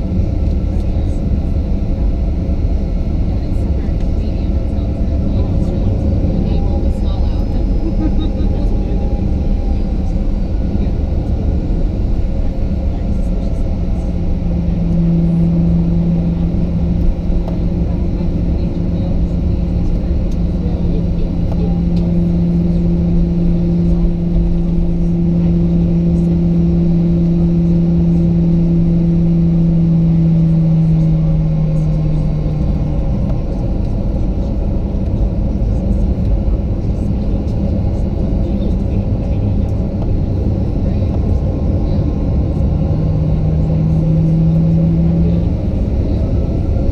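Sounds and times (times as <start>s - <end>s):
jet engines rumbling: 0.0s - 46.9s
steady low hum: 0.0s - 46.9s
wheels on taxiway: 0.0s - 46.9s.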